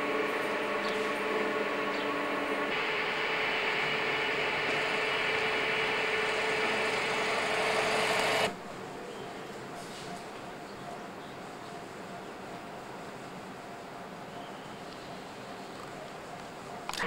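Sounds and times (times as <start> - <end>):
mechanical whirring hum: 0.0 - 17.0.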